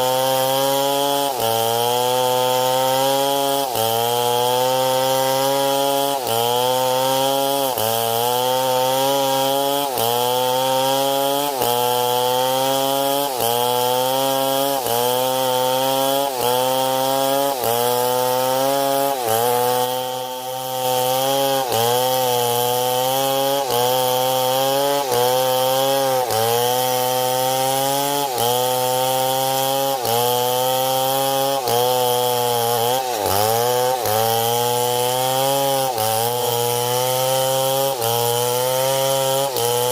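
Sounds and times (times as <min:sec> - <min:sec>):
chainsaw cutting under load: 0:00.0 - 0:39.9.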